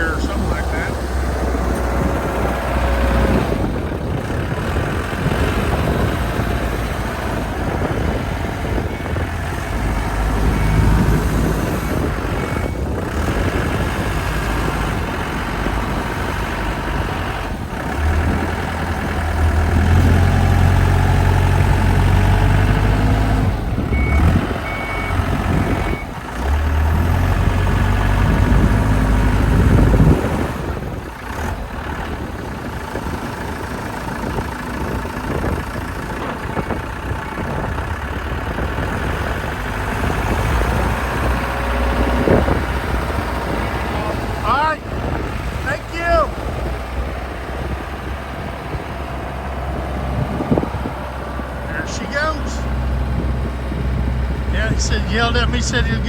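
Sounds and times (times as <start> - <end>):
forklift engine revving: 0.0 - 56.0.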